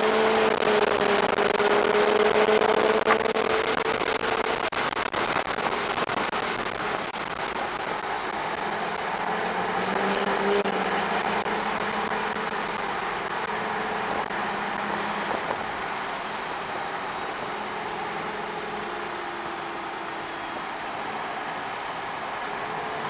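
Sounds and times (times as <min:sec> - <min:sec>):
car engine under load: 0:00.0 - 0:23.0
road and wind noise: 0:00.0 - 0:23.0.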